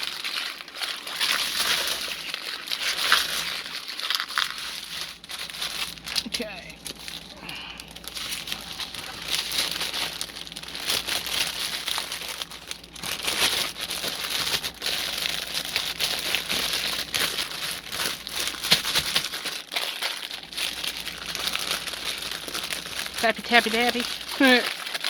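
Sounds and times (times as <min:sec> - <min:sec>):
plastic bags crinkling: 0:00.0 - 0:25.0.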